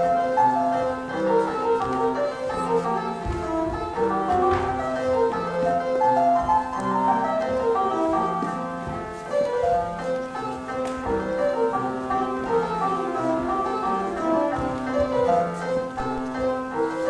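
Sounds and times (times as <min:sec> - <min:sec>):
instrumental dance music: 0:00.0 - 0:17.0.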